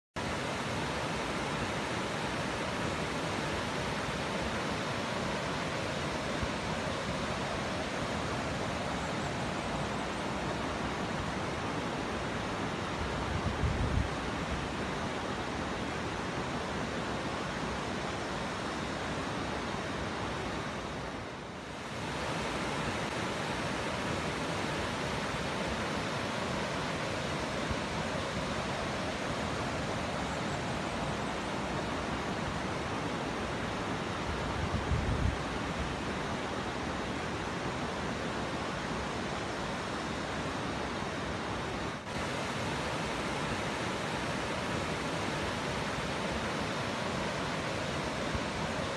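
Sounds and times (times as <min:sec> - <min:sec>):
waterfall rushing: 0:00.2 - 0:48.9.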